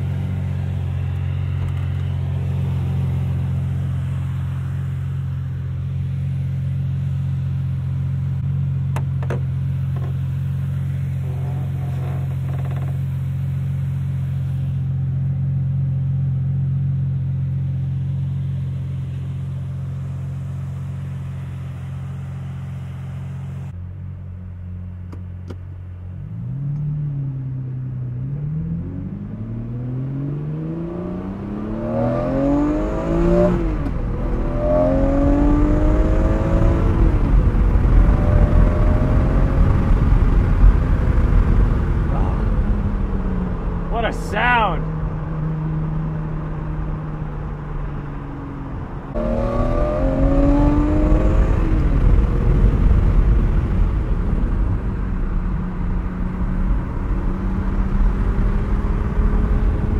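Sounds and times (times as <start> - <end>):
sports car engine accelerating: 0.0 - 59.9.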